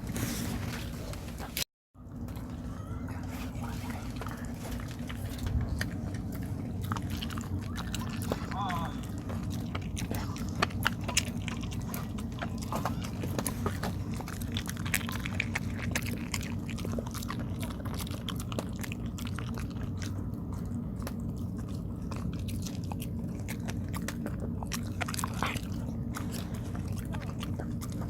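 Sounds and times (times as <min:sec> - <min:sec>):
steady low hum: 0:00.0 - 0:28.0
dog chewing sticky food: 0:02.0 - 0:28.0.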